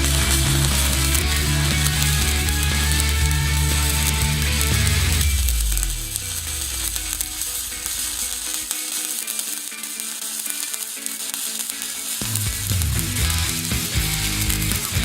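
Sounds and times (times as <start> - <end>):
background music: 0.0 - 15.0
welding arc crackling hiss: 0.0 - 15.0.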